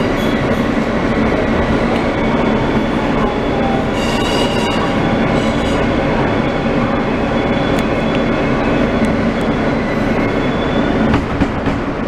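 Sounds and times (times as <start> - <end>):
subway car wheels rumbling: 0.0 - 12.0.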